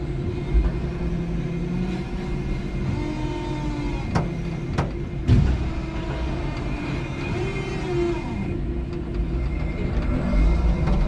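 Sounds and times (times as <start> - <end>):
forklift motor whine: 0.0 - 11.0.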